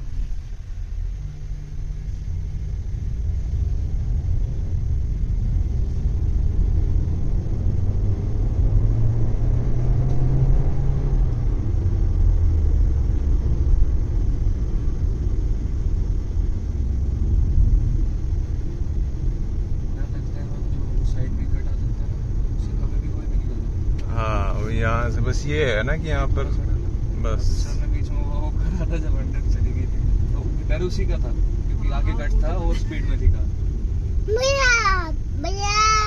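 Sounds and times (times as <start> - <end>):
car cabin road and engine rumble: 0.0 - 36.0.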